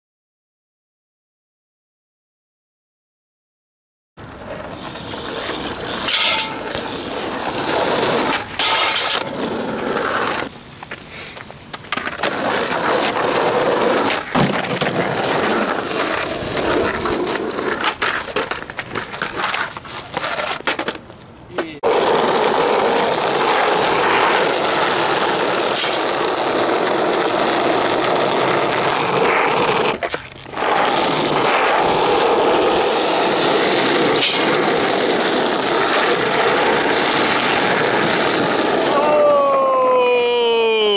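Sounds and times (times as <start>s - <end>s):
bike tyres rolling and scraping: 4.2s - 40.2s.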